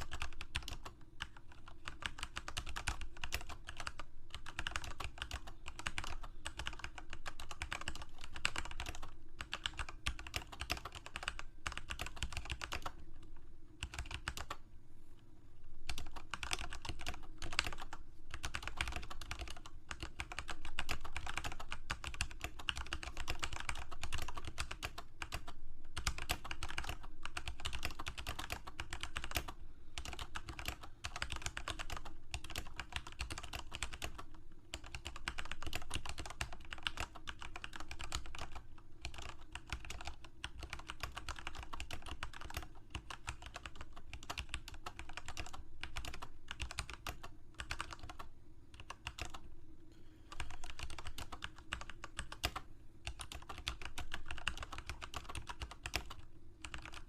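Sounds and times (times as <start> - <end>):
fast keyboard typing: 0.0 - 13.0, 13.8 - 14.6, 15.8 - 49.5, 50.3 - 57.0.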